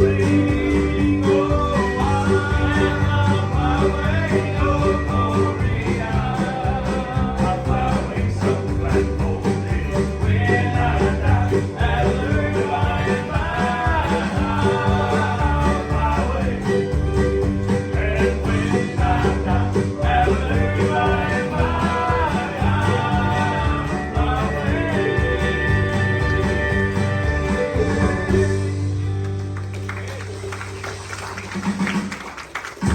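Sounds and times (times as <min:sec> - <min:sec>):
country gospel band playing: 0:00.0 - 0:32.9.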